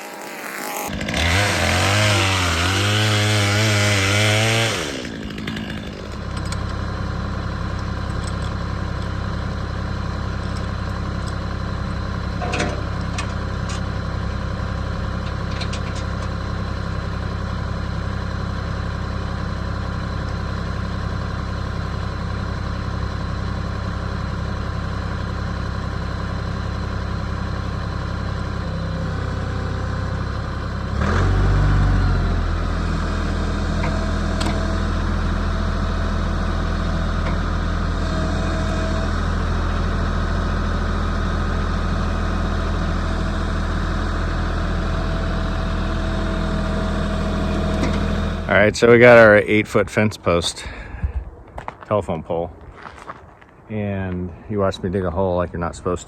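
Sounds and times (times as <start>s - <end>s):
high-revving engine: 0.0s - 48.5s
diesel tractor engine idling: 0.9s - 56.0s.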